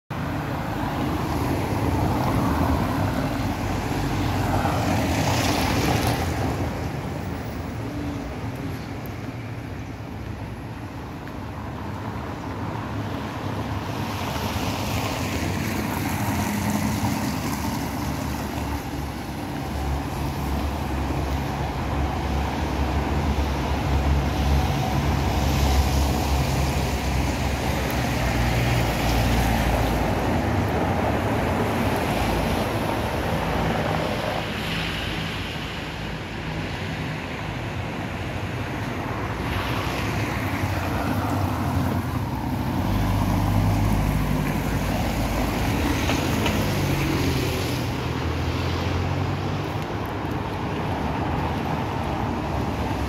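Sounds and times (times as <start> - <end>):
outdoor ambience: 0.1 - 53.0.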